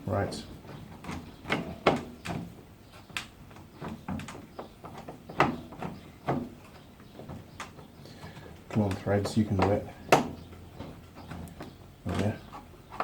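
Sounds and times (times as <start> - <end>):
barbecue parts knocking and clicking: 0.6 - 13.0.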